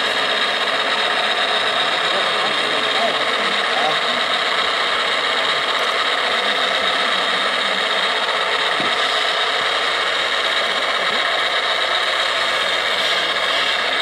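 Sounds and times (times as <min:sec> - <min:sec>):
model truck mechanical running: 0:00.0 - 0:14.0.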